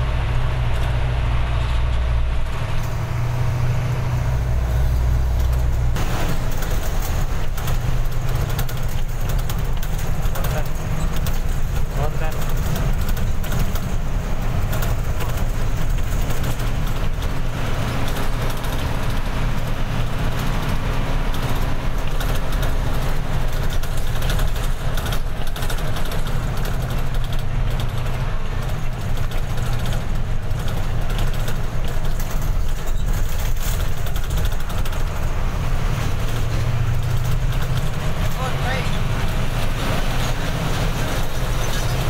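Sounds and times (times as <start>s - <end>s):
bus engine drone: 0.0s - 42.0s.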